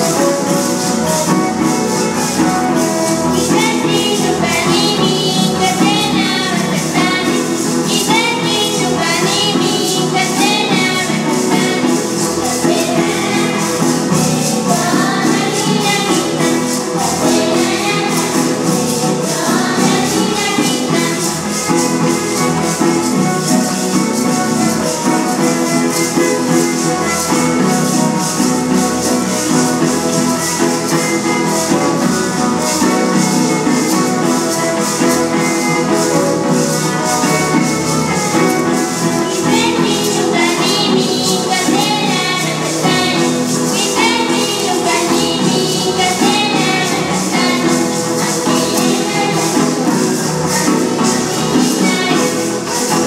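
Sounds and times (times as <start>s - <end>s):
girls singing: 0.0s - 53.0s
hand rattles shaking: 0.0s - 53.0s
violin and guitars playing: 0.0s - 53.0s.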